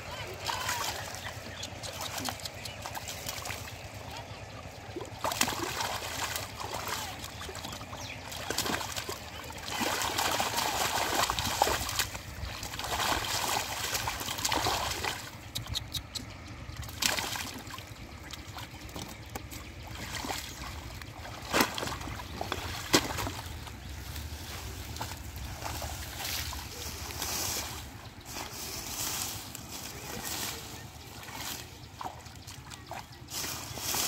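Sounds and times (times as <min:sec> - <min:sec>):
muddy water splashing: 0:00.0 - 0:34.0.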